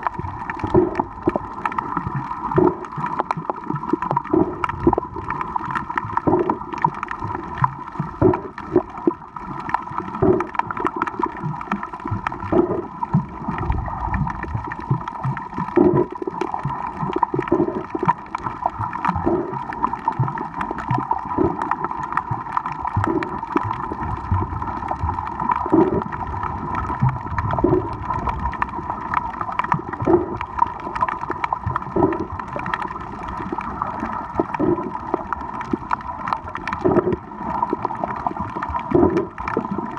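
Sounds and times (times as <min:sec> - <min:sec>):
underwater gurgling: 0:00.0 - 0:39.9.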